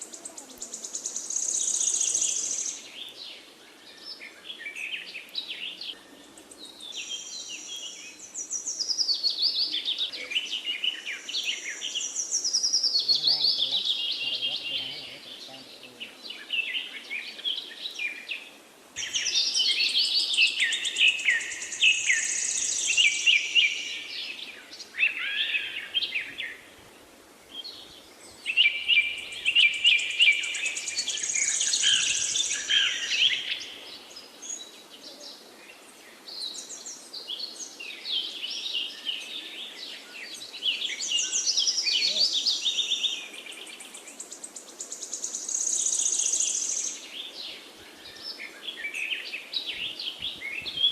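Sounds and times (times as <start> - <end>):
birds chirping and trilling: 0.0 - 50.9
faint background noise: 0.0 - 50.9.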